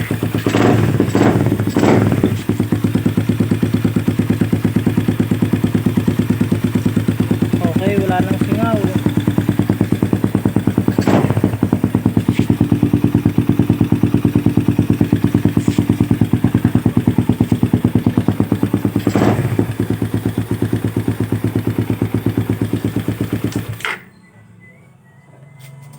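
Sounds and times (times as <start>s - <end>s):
motorcycle engine idling: 0.0s - 24.2s.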